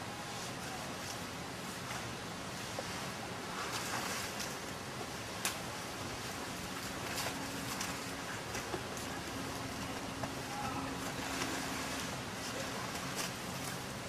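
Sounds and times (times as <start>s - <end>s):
faint low hum: 0.0s - 14.0s
rushing outdoor noise: 0.0s - 14.0s.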